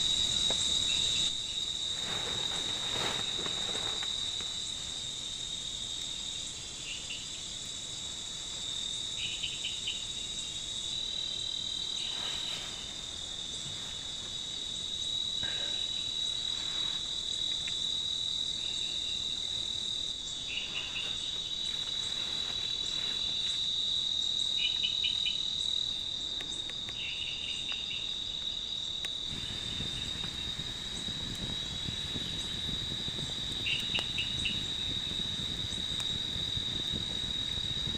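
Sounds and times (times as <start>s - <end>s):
crickets trilling: 0.0s - 37.9s
insect pulsed chirps: 0.0s - 37.9s.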